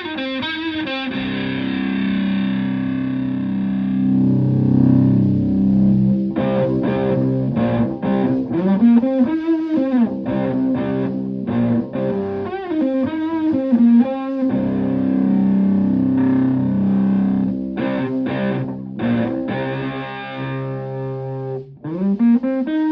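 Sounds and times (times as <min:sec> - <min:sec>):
fuzz electric guitar: 0:00.0 - 0:22.9.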